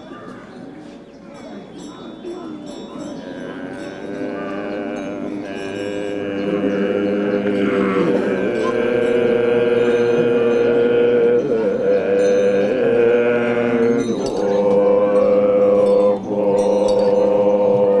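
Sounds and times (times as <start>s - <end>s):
ritual music with long held notes: 2.7s - 18.0s.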